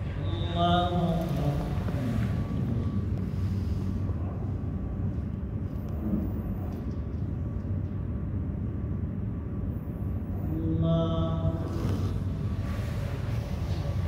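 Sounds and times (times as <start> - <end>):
faint hum: 0.0 - 14.0
low background rumble: 0.0 - 14.0.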